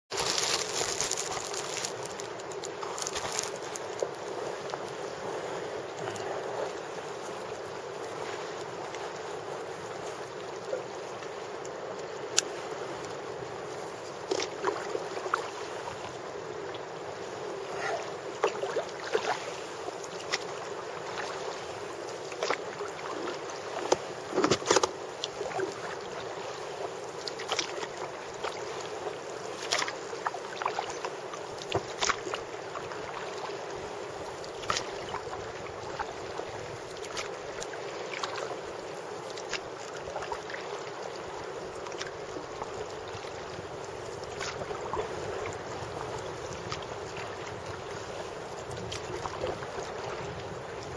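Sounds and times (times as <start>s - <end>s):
paddle blades splashing: 0.1s - 50.9s.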